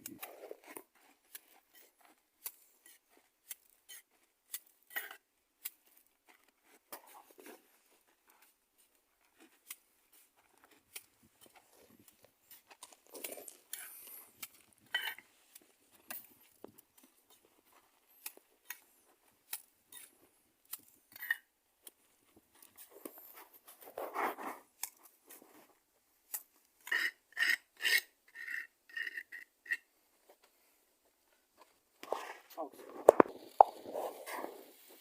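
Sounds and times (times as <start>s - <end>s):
light clicks and scrapes: 0.0s - 27.5s, 28.4s - 35.0s.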